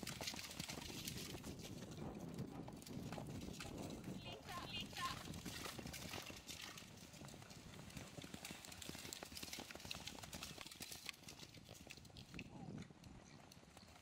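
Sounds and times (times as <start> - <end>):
horses cantering on wet turf: 0.0 - 14.0.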